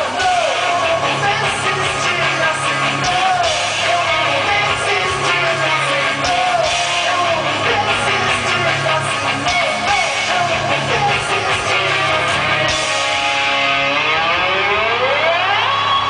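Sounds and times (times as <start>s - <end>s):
person singing: 0.0s - 13.3s
rock band playing live: 0.0s - 16.0s.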